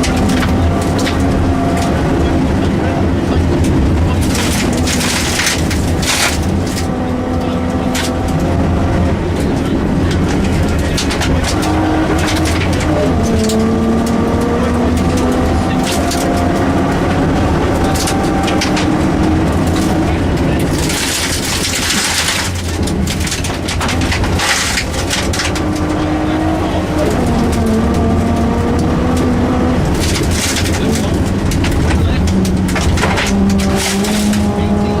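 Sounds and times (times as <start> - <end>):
sharp clatters under car: 0.0 - 2.0, 3.4 - 8.6, 9.2 - 35.0
rally car engine at full effort: 0.0 - 35.0.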